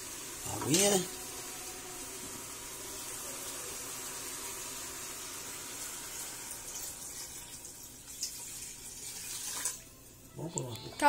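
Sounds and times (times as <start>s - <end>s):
meat sizzling in a pot: 0.0s - 10.0s
water pouring into a pot: 0.0s - 10.1s.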